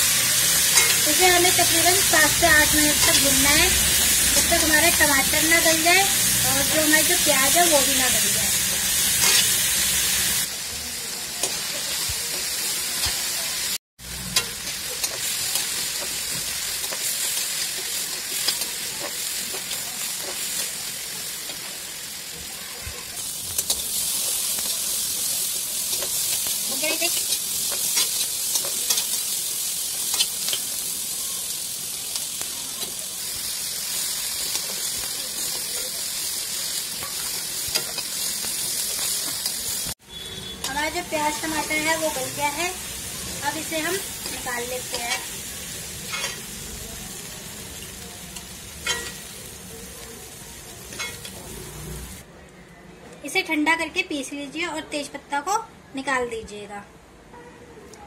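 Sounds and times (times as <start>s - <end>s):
vegetables sizzling in oil: 0.0s - 52.2s.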